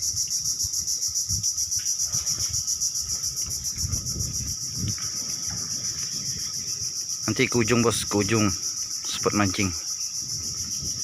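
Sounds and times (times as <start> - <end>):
insects chirring: 0.0 - 11.0
wind buffeting microphone: 0.0 - 11.0.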